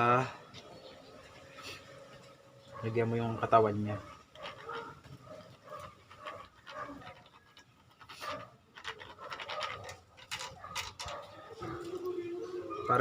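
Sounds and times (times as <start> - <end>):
faint scraping: 0.2 - 13.0.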